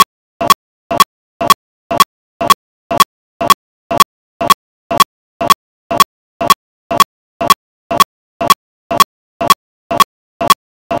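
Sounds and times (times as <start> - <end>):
regular double ticks: 0.0 - 11.0.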